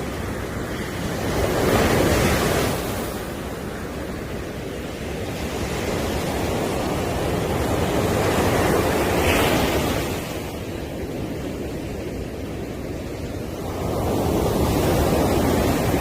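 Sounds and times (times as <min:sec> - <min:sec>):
wave breaking on beach: 0:00.0 - 0:16.0.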